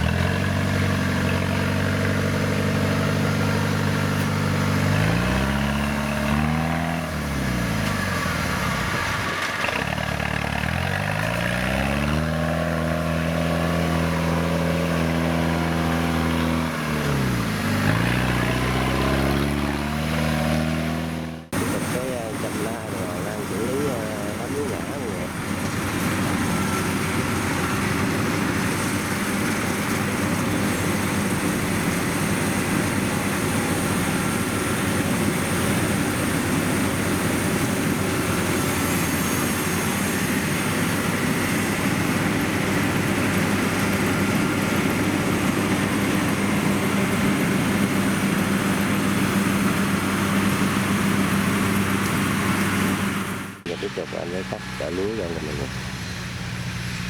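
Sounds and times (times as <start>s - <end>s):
harvesting machine engines droning: 0.0s - 57.0s.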